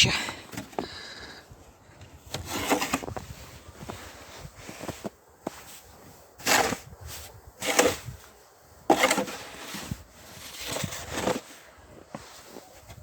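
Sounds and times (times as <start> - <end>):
snow shovel scraping through snow: 2.3 - 13.0.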